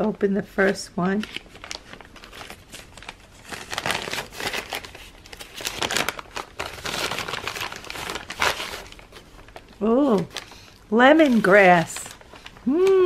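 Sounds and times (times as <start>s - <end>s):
paper bag crinkling: 0.6s - 13.0s.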